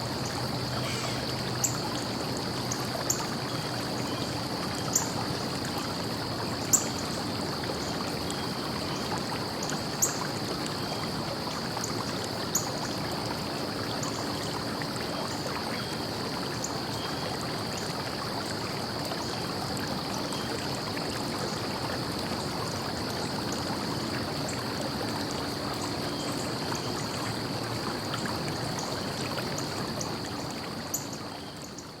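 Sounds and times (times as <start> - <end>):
stream flowing: 0.0 - 32.0.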